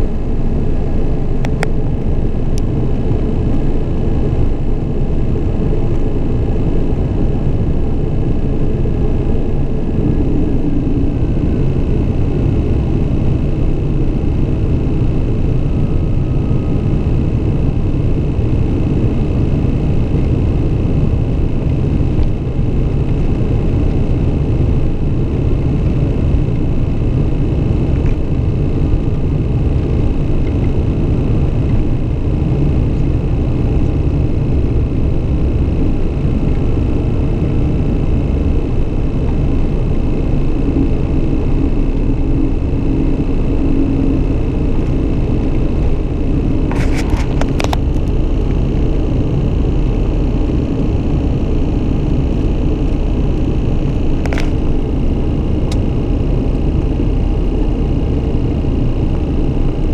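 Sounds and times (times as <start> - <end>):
high engine whine: 0.0 - 59.9
turboprop engine rumble: 0.0 - 59.9.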